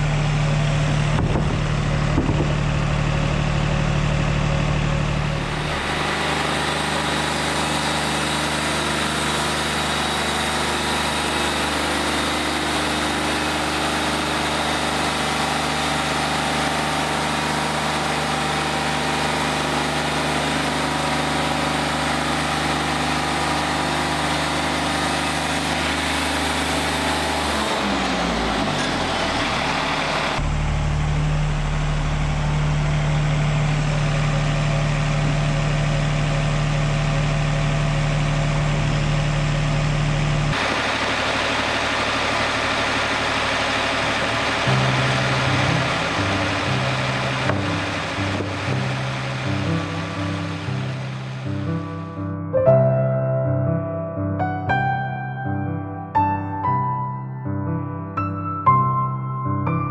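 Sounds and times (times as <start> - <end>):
sawmill engine running: 0.0 - 52.3.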